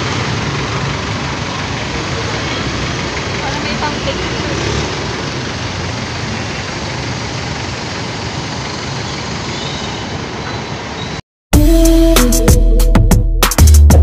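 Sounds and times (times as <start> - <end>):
highway traffic: 0.0 - 11.2.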